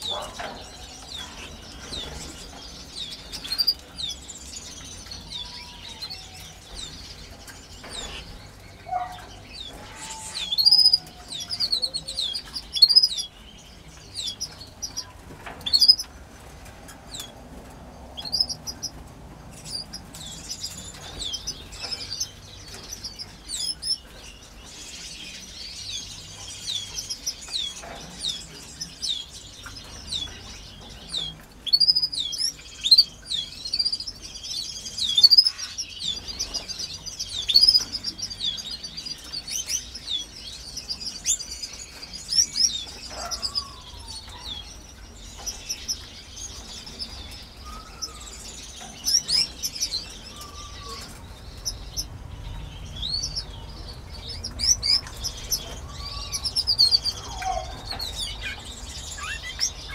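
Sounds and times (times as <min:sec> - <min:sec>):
canaries chirping: 0:00.0 - 0:59.9.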